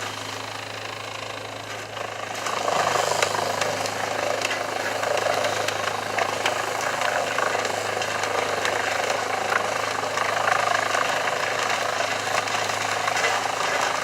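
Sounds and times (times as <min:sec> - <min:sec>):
large engine running: 0:00.0 - 0:14.0.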